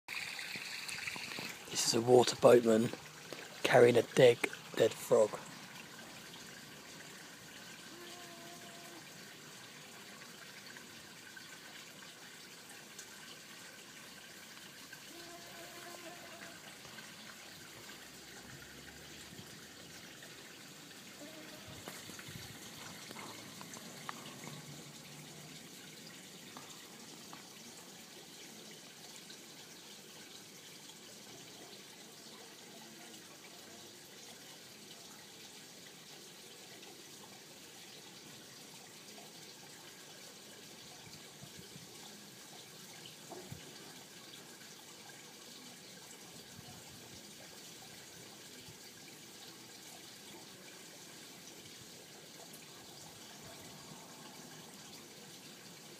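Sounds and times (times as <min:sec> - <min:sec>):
trickle of running water: 0:00.0 - 0:55.9.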